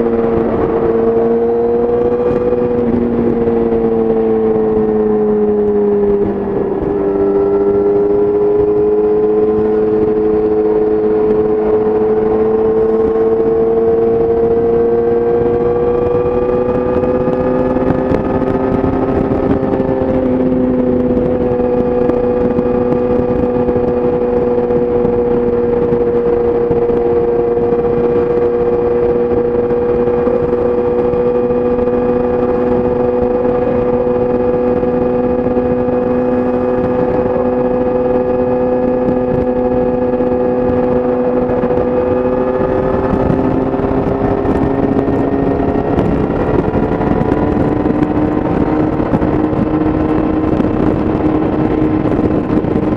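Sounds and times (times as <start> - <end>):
motorcycle engine cruising: 0.0 - 52.9
wind noise: 0.0 - 52.9.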